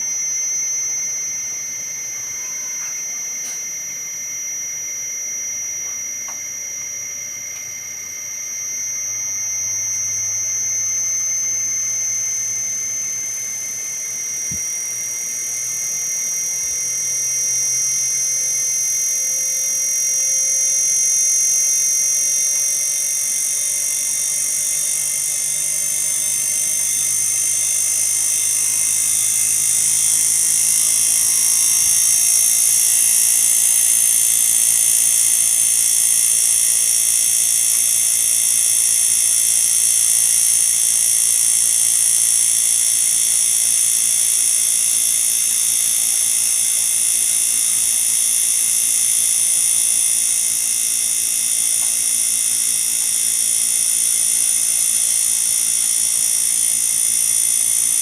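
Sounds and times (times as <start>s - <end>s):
high-pitched machine whine: 0.0s - 58.0s.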